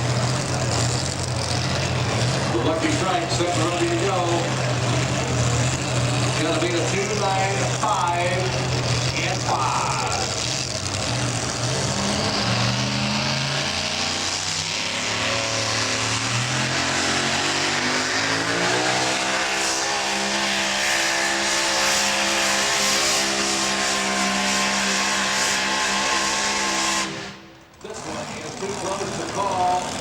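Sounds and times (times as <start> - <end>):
truck engine at full throttle: 0.0 - 30.0.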